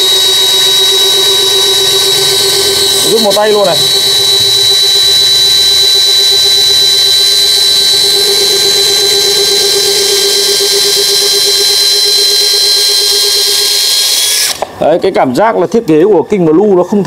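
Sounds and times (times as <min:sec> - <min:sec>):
cordless drill whining: 0:00.0 - 0:14.8.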